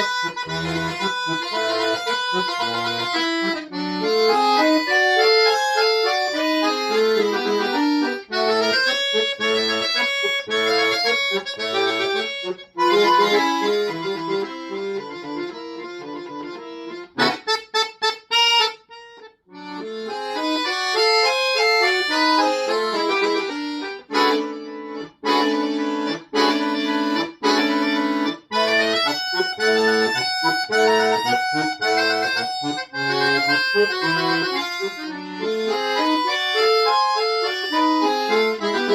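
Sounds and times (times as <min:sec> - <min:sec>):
solo accordion playing: 0:00.0 - 0:38.9.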